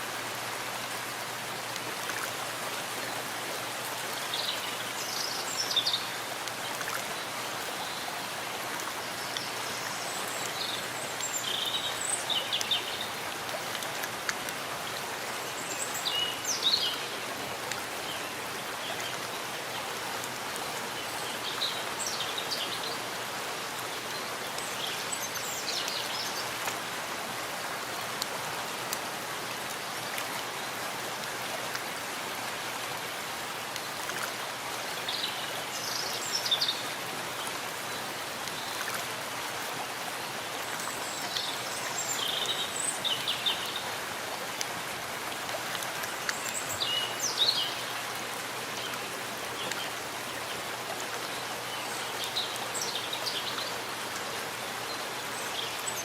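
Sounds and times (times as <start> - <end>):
steady rain in forest: 0.0 - 56.0.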